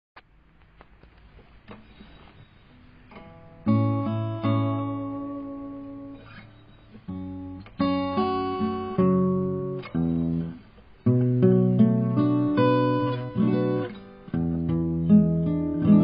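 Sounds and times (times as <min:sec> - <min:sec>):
acoustic guitar chords: 0:02.9 - 0:16.0.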